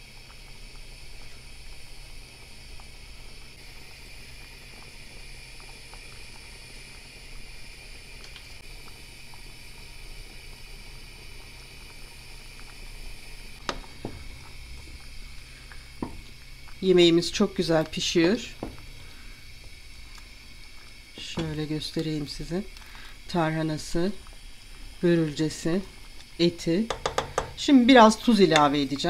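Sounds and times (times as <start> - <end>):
stew bubbling and popping: 0.0 - 29.0.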